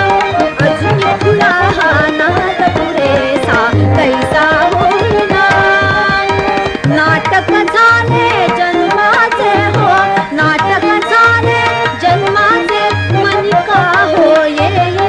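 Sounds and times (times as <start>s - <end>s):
held accompanying notes: 0.0s - 15.0s
tabla rhythm: 0.0s - 15.0s
woman singing: 0.0s - 15.0s.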